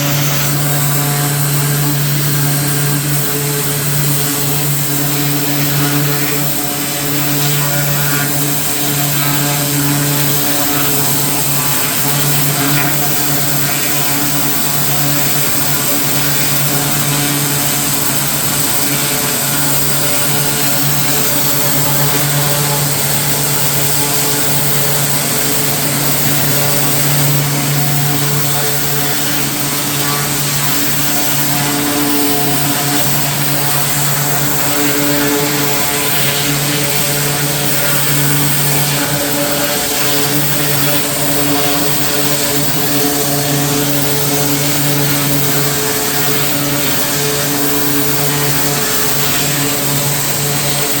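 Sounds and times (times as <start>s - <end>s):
small gas engine running: 0.0s - 51.0s.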